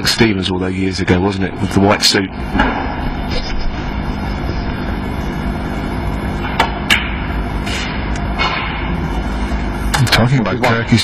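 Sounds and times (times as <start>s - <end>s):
low arena hum: 0.0s - 11.0s.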